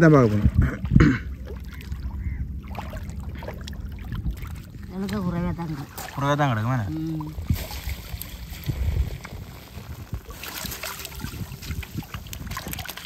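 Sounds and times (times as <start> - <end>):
water splashing around fish trap: 0.0 - 13.0
wind rumbling on microphone: 0.0 - 13.0.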